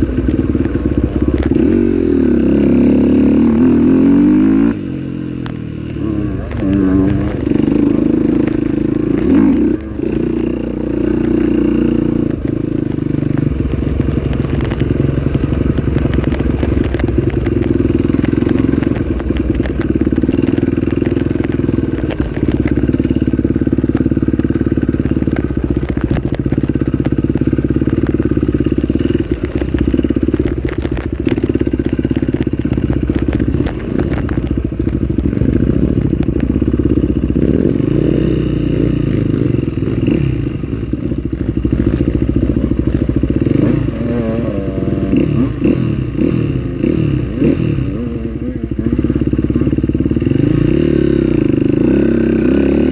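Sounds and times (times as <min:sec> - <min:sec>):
bike clattering over rough ground: 0:00.0 - 0:48.0
motorcycle engine running: 0:00.0 - 0:52.9.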